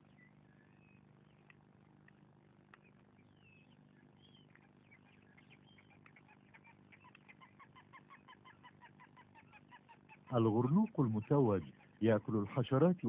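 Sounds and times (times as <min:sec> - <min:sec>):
faint bird calls: 0:00.0 - 0:13.0
low steady hum: 0:00.0 - 0:13.0.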